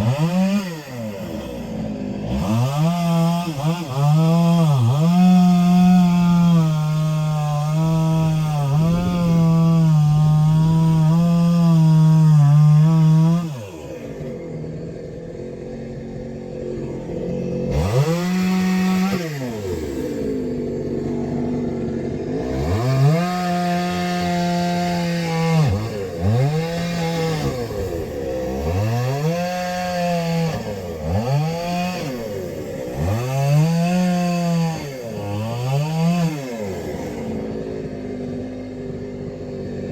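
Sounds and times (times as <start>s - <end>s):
chainsaw cutting and revving: 0.0s - 39.9s.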